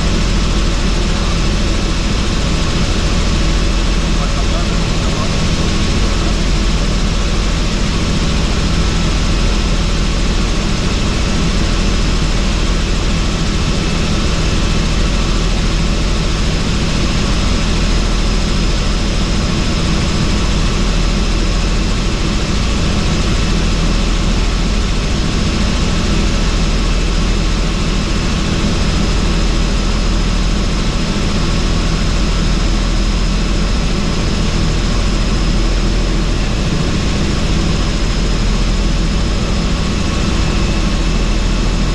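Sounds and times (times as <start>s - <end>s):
helicopter rotor and engine: 0.0s - 41.9s.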